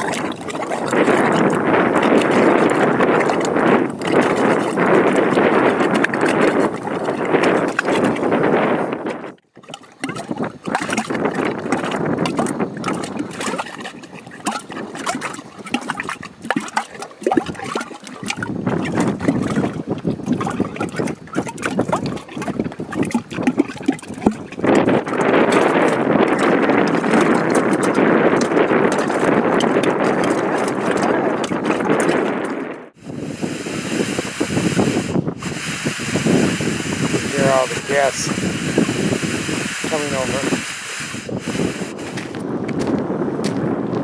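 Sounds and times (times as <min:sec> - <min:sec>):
mud gurgling and popping: 0:00.0 - 0:44.0.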